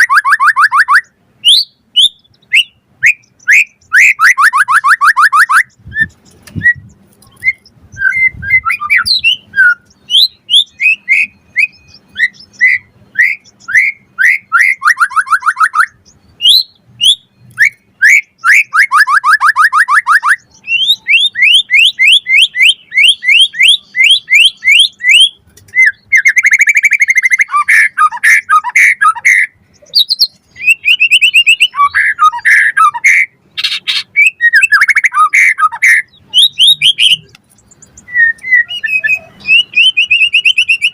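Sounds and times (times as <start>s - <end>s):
bird singing trills and whistles: 0.0s - 40.9s.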